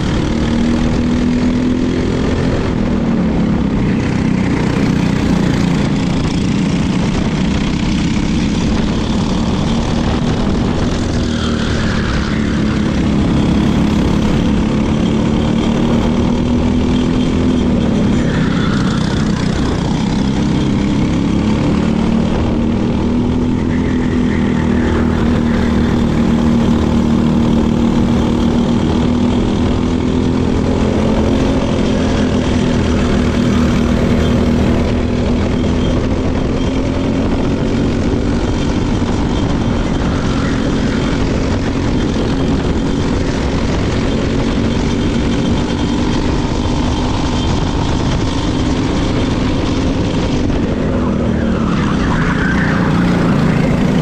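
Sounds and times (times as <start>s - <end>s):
kart engine running: 0.0s - 54.0s.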